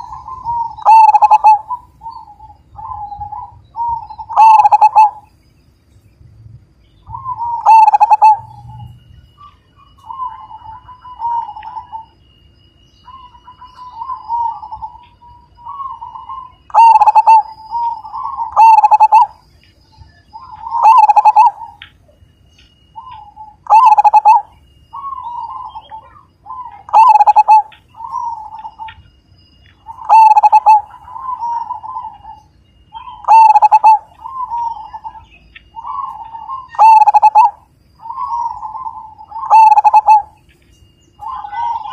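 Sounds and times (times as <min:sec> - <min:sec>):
dove cooing: 0:00.0 - 0:05.3, 0:07.0 - 0:12.2, 0:13.0 - 0:22.0, 0:22.9 - 0:40.4, 0:41.1 - 0:41.9.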